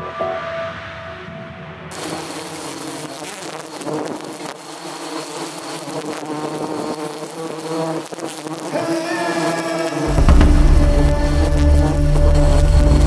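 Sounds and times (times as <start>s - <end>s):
bees buzzing: 1.9s - 13.0s.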